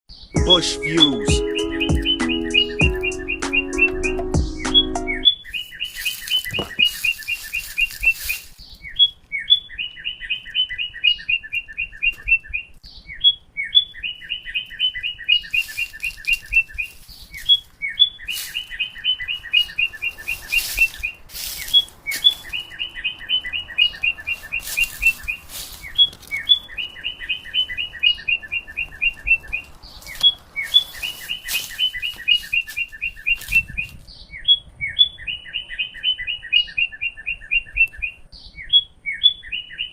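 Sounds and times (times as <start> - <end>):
songbird singing: 0.1 - 39.9
bird single calls: 4.7 - 39.9.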